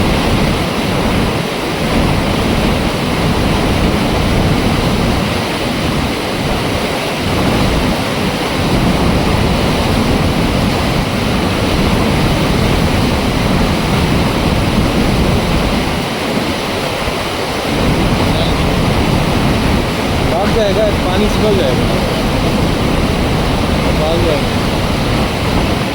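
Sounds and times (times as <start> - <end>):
water rushing out of dam gate: 0.0 - 25.9.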